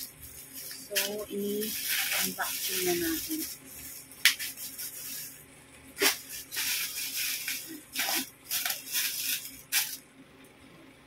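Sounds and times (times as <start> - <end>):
plastic wrapper crinkling and tearing: 0.0 - 10.1.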